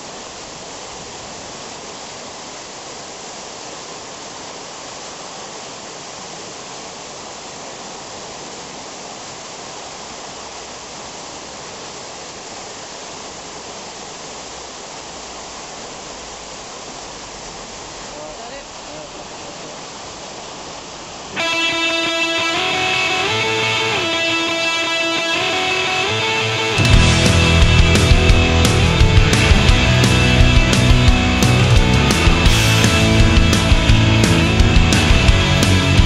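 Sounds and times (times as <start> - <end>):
whitewater rushing through weir: 0.0 - 36.0.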